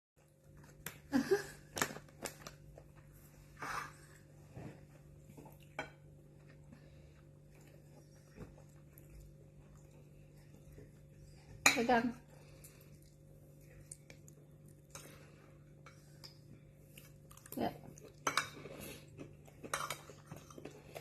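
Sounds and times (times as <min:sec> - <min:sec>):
faint steady hum: 0:00.2 - 0:21.0.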